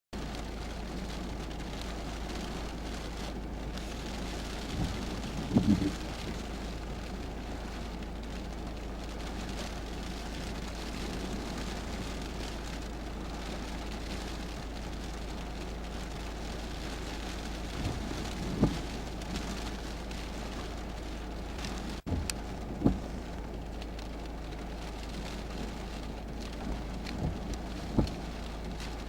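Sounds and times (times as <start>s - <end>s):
rain and wind rushing: 0.2s - 29.0s.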